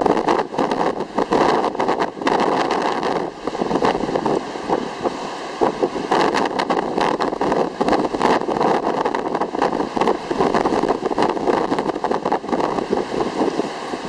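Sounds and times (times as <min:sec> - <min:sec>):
strong wind and rough sea: 0:00.0 - 0:14.0.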